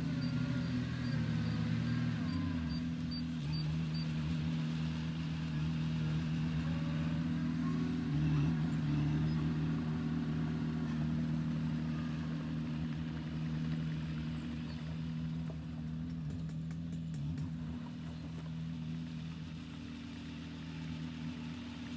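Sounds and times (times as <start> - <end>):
heavy diesel engine running: 0.0 - 21.9.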